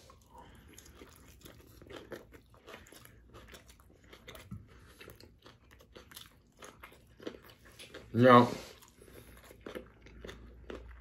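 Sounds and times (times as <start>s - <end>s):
person crunching and chewing food: 0.0s - 11.0s.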